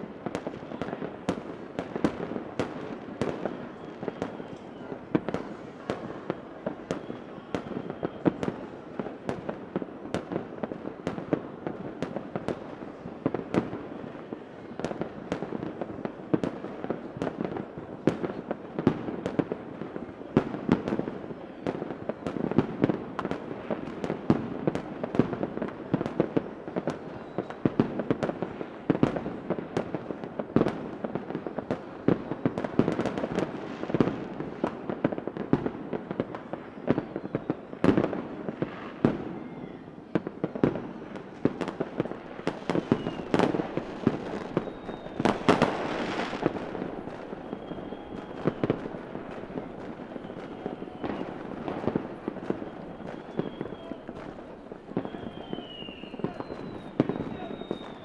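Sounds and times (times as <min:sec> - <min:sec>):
faint fireworks whistles: 0:00.0 - 0:58.0
fireworks bangs and crackles: 0:00.0 - 0:58.0.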